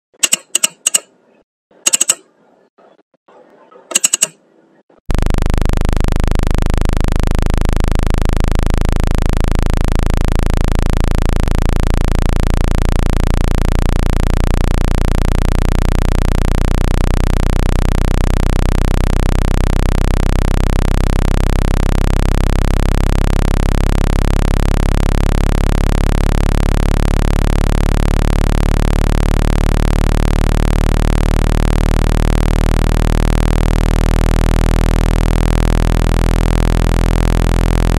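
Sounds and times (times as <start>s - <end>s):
low wobbling electronic tone: 5.1s - 37.9s.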